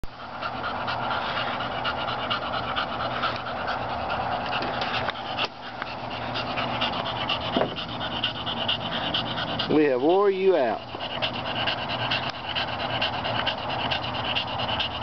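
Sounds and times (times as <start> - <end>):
dog panting rapidly: 0.0 - 15.0.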